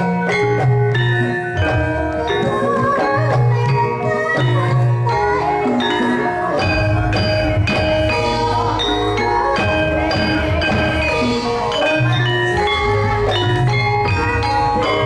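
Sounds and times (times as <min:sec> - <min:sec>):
metallophones ringing struck notes: 0:00.0 - 0:15.0.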